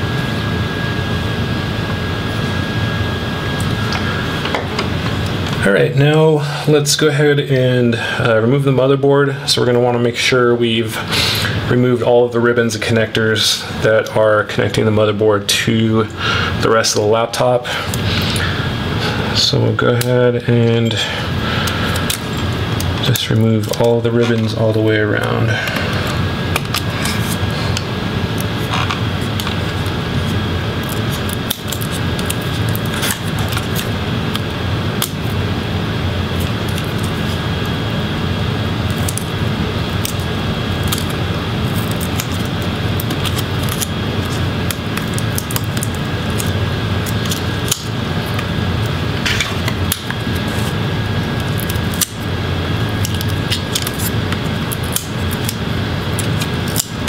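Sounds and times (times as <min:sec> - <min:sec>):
steady background noise: 0:00.0 - 0:57.0.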